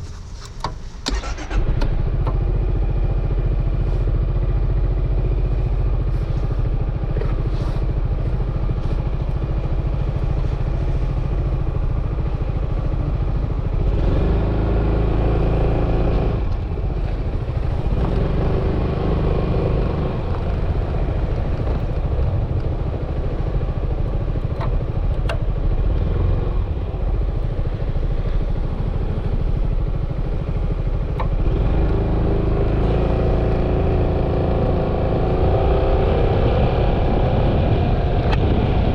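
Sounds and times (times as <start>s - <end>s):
wind and road noise: 0.0s - 38.9s
scooter engine running: 1.2s - 38.9s.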